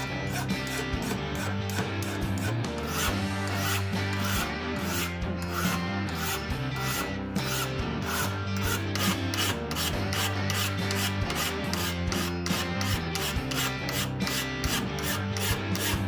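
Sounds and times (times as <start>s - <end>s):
background music: 0.0s - 16.0s
hand file rasping on metal: 0.0s - 16.0s.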